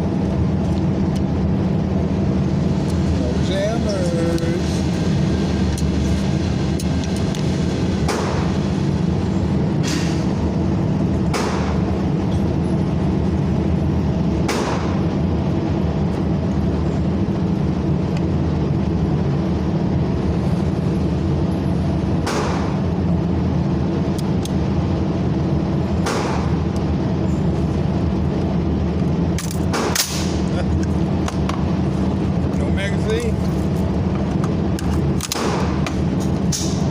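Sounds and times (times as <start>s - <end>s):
vehicle engine humming: 0.0s - 36.9s.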